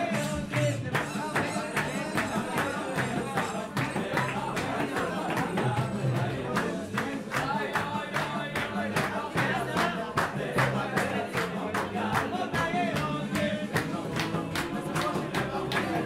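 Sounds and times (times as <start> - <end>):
men singing together: 0.0 - 16.0
music with fast beat: 0.0 - 16.0
rhythmic hand-clapping: 0.0 - 16.0.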